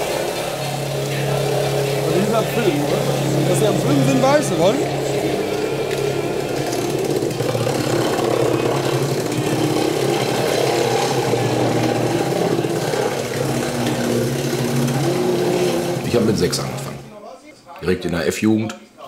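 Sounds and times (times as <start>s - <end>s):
car engine running: 0.0s - 17.1s.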